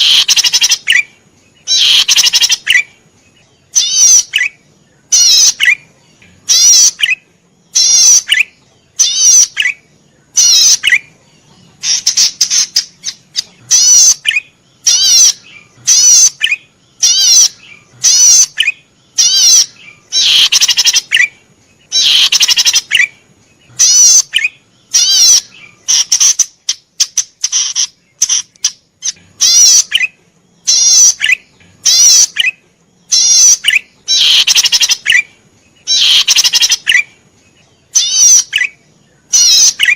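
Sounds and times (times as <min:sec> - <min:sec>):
bird singing buzzy trills: 0:00.0 - 0:39.9.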